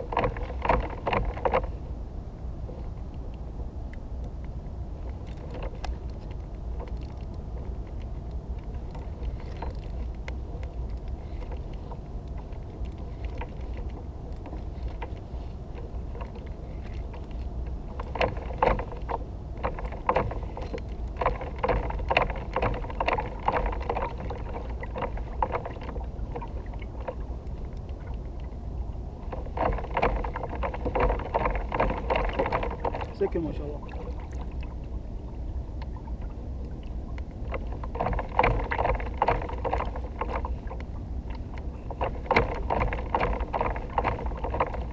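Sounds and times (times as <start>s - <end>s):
wind and water rumble: 0.0s - 44.9s.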